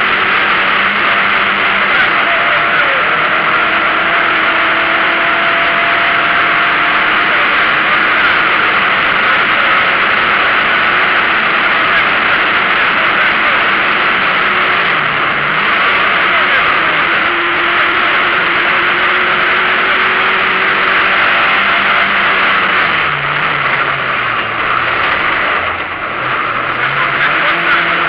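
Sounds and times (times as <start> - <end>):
rally car engine: 0.0 - 28.0
road noise: 0.0 - 28.0.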